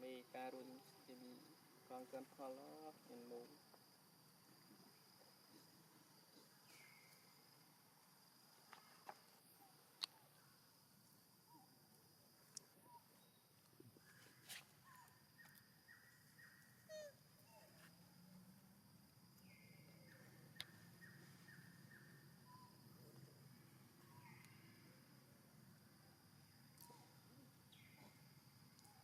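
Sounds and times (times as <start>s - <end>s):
high insect drone: 0.0s - 29.0s.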